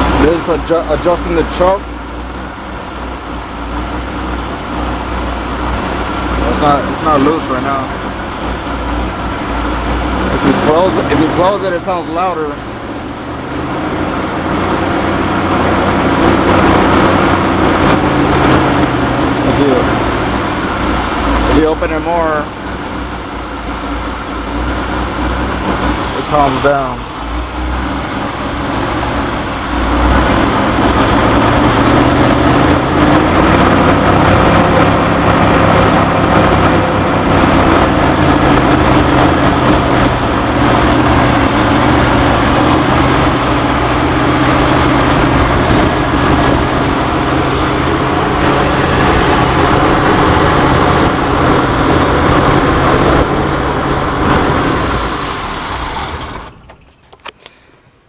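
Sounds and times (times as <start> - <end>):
car engine running at high revs: 0.0 - 58.0.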